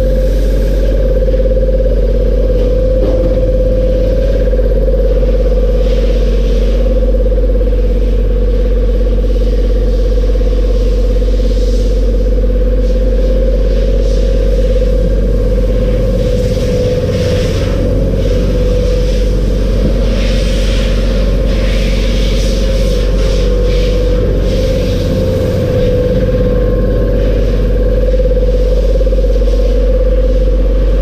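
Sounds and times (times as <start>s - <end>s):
air compressor running: 0.0s - 31.0s.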